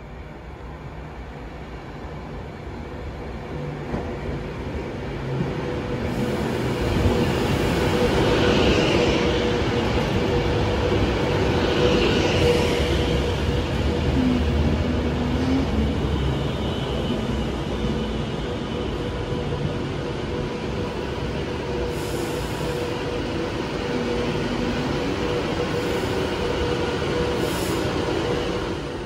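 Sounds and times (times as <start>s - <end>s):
train wheels rumbling on rails: 3.3s - 29.0s.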